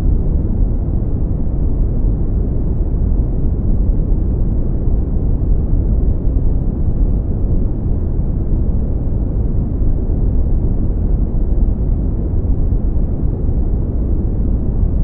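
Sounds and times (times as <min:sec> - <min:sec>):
low rumbling brown noise: 0:00.0 - 0:15.0.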